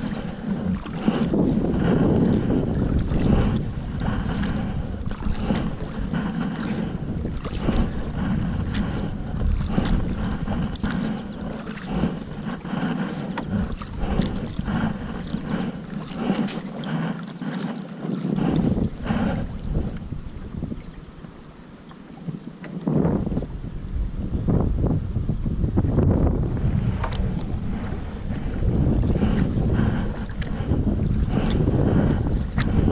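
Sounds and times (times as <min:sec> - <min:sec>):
water splashing around kayak: 0:00.0 - 0:32.9
wind buffeting microphone: 0:00.0 - 0:32.9.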